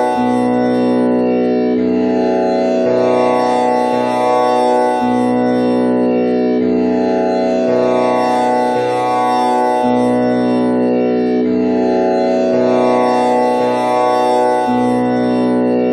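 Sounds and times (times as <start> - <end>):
tanpura drone: 0.0 - 15.9.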